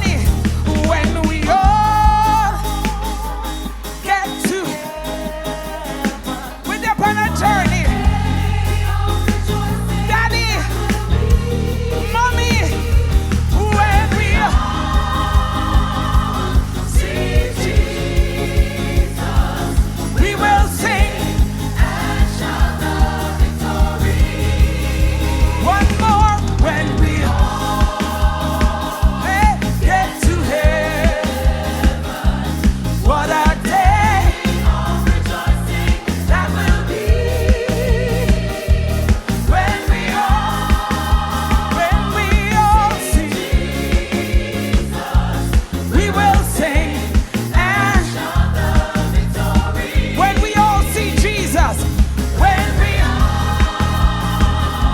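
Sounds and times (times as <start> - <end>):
drum beat: 0.0 - 3.2, 6.1 - 54.9
bass: 0.0 - 54.9
choir singing a hymn: 0.0 - 54.9.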